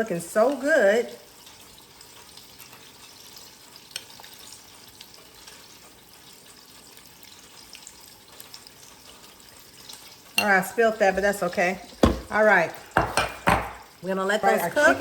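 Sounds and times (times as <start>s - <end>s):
oil crackling and popping: 0.0s - 14.2s
chicken frying in hot oil: 0.0s - 15.0s.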